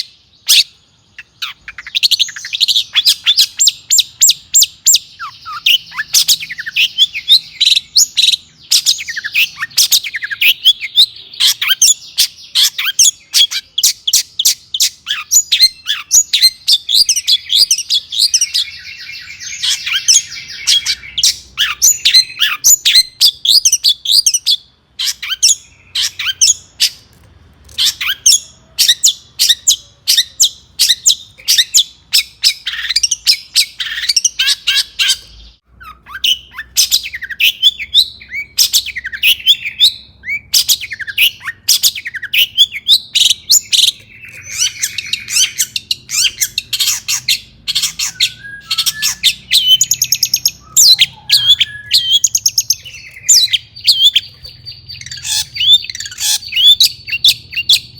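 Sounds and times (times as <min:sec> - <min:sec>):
bird singing harsh chatter: 0:00.0 - 0:57.9.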